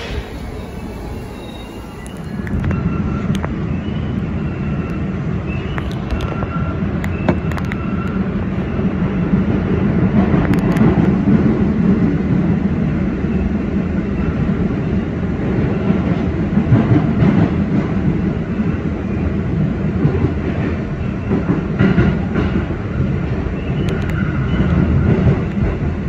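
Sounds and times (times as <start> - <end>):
subway train wheels rumbling: 0.0 - 26.0.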